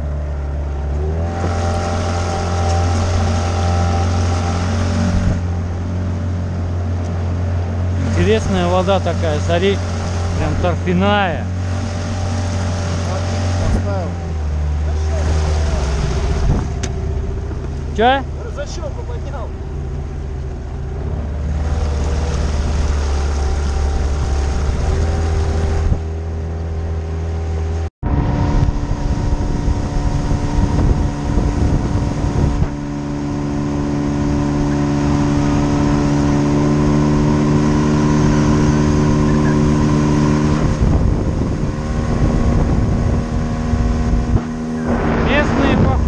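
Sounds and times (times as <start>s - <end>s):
outboard motor running: 0.0s - 46.0s.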